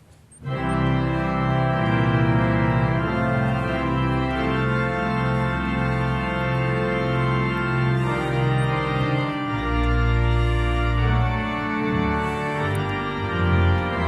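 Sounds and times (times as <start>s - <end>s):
organ playing sustained chords: 0.3s - 14.0s.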